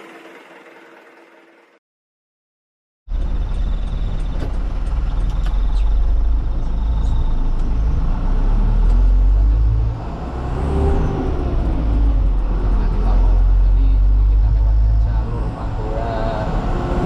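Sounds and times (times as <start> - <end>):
truck engine rumbling: 3.1 - 17.0.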